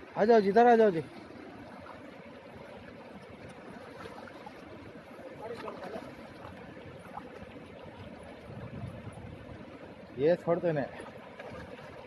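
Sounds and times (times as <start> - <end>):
river water flowing over rocks: 0.0 - 12.0.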